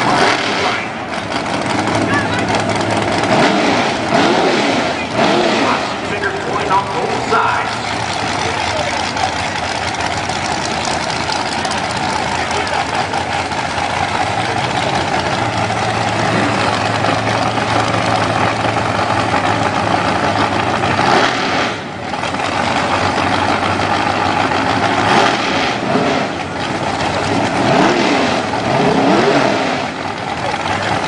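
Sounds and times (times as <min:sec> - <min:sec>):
race car engines idling loudly: 0:00.0 - 0:31.0.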